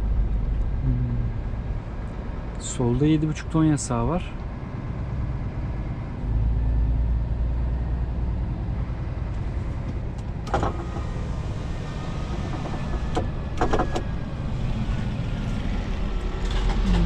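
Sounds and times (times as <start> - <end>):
diesel truck engine rumble: 0.0 - 17.0.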